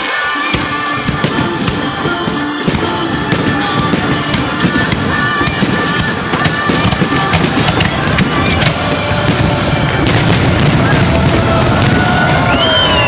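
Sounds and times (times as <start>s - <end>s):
fireworks bursting: 0.0s - 13.0s
music playing: 0.0s - 13.0s.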